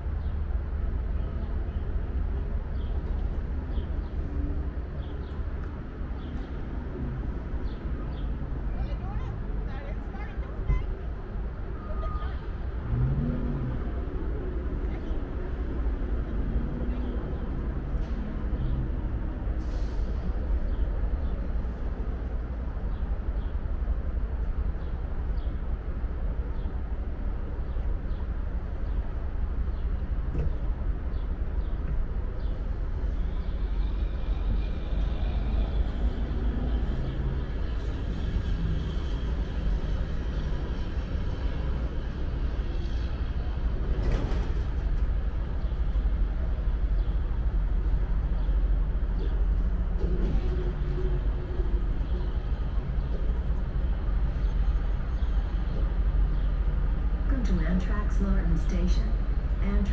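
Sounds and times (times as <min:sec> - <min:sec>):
train cars rumbling: 0:00.0 - 0:59.9.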